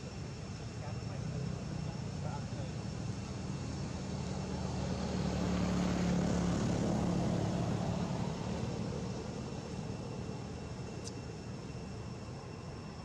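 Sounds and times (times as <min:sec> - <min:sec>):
distant engine drone passing: 0:00.4 - 0:13.0.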